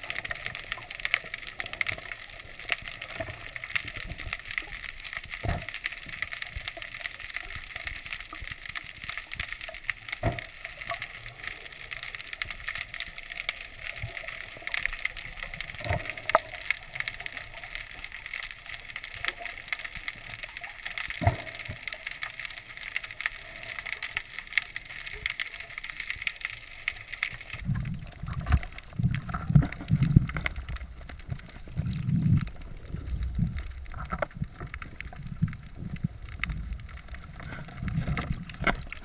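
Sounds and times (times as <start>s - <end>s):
underwater crackling hiss: 0.0s - 39.0s.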